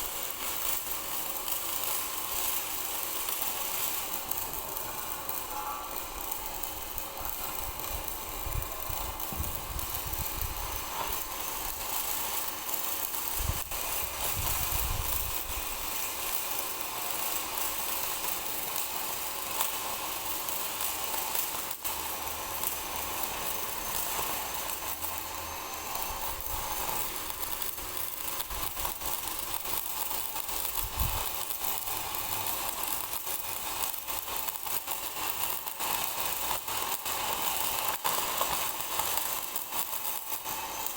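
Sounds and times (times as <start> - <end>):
welding arc crackling hiss: 0.0 - 40.9.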